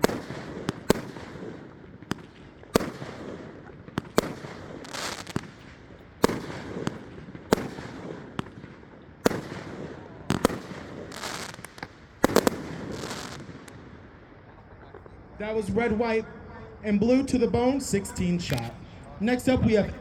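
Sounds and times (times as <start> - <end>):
fireworks bangs: 0.0 - 16.2, 17.1 - 20.0
fireworks crackling: 0.0 - 16.2, 17.1 - 20.0.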